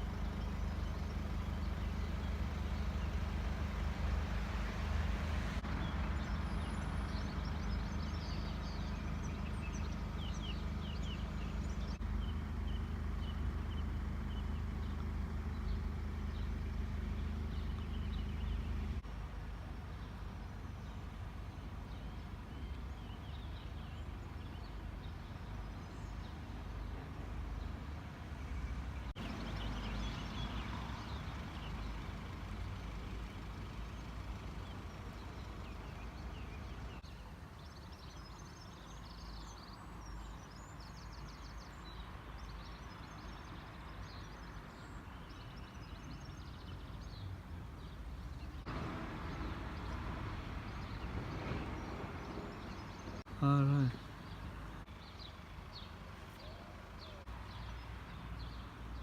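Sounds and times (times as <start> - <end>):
birds chirping: 0.0 - 59.0
low rumble of vehicles: 0.0 - 59.0.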